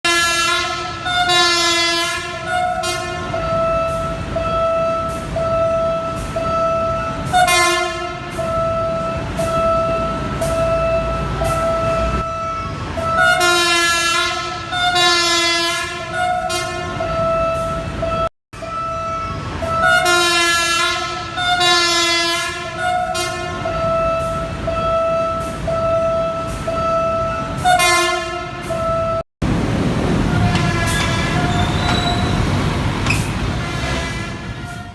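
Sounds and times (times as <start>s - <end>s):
train horn tooting: 0.0s - 29.2s, 30.2s - 32.5s, 33.3s - 34.9s
train rumbling: 0.0s - 34.9s.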